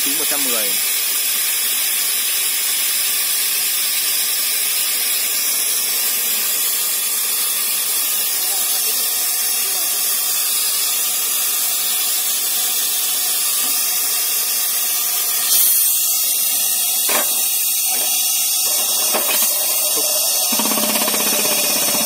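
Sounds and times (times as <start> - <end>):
compressed air hissing: 0.0 - 22.0.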